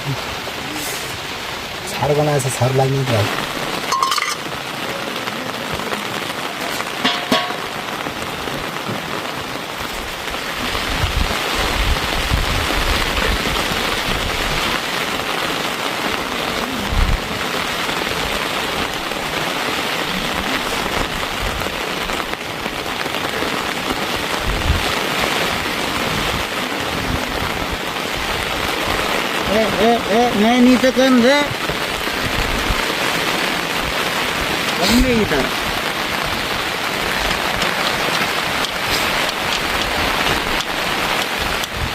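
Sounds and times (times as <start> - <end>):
heavy rain pattering: 0.0 - 41.9.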